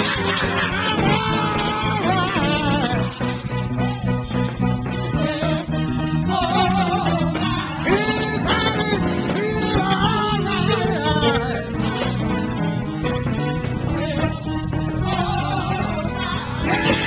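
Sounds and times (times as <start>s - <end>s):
voices singing: 0.0s - 12.8s, 13.7s - 17.0s
gospel band with guitar and bass: 0.0s - 17.0s.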